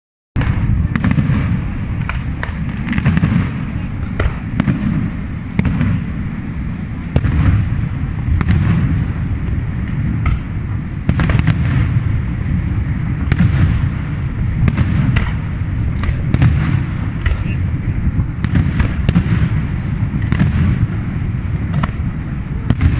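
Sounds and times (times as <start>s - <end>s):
continuous low rumble: 0.4s - 22.9s
fireworks bangs and crackling: 0.4s - 22.9s.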